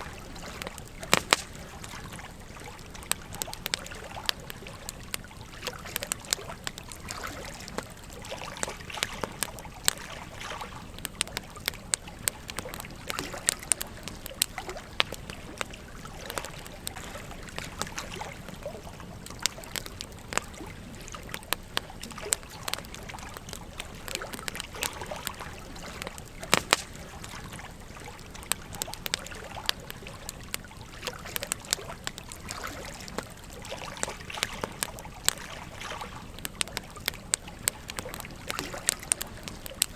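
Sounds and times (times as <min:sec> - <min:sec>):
campfire crackling and popping: 0:00.0 - 0:39.9
stream trickling: 0:00.0 - 0:39.9.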